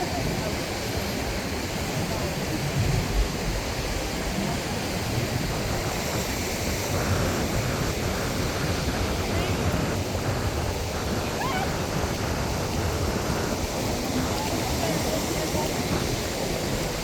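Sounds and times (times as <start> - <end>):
breaking surf: 0.0 - 17.0
wind buffeting microphone: 0.0 - 17.0.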